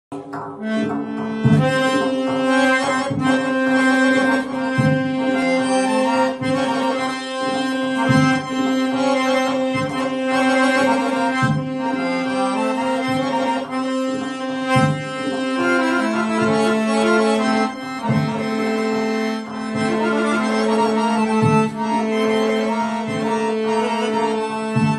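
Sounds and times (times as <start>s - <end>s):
accordion melody: 0.1s - 24.9s.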